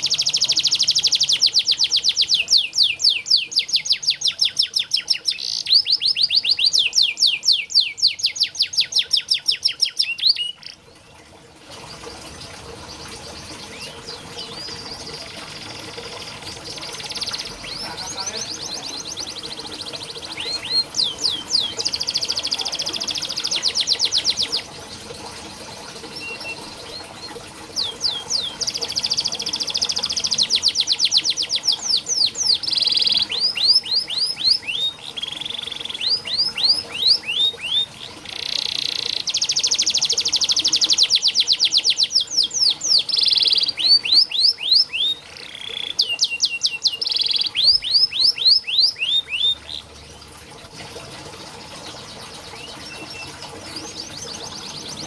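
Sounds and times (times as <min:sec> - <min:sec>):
canary singing trills: 0:00.0 - 0:11.0, 0:12.5 - 0:49.9, 0:51.8 - 0:55.0.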